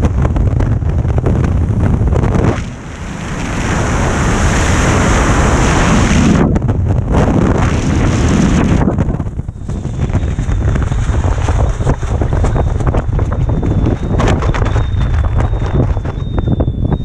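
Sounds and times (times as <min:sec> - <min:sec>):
wind blasting microphone: 0:00.0 - 0:17.0.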